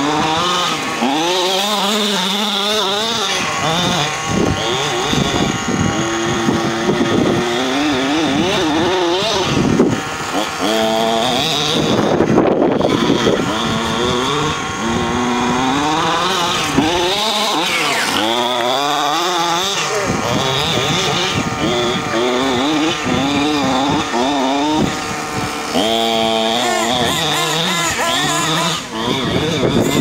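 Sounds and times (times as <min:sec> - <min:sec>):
small two-stroke engine revving: 0:00.0 - 0:30.0.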